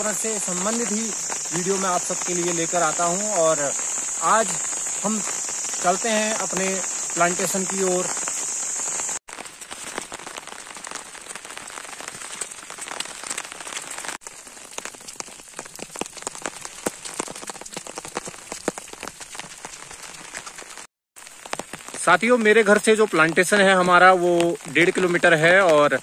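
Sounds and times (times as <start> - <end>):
raindrop impacts: 0.0 - 26.0
steady rain: 0.0 - 26.0.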